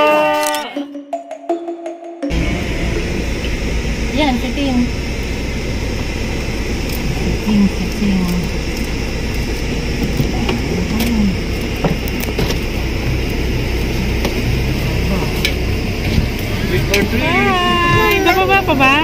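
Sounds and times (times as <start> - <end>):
air conditioning blowing: 2.3 - 19.0
car engine idling: 2.3 - 19.0.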